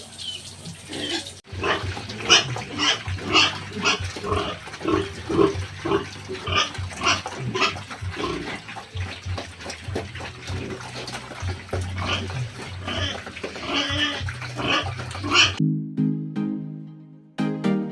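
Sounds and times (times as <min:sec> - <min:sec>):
pigs grunting and squealing: 0:00.8 - 0:15.6.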